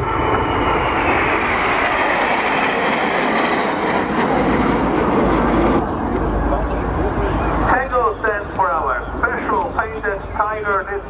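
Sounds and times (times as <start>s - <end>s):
jet fighters passing low: 0.0s - 11.0s.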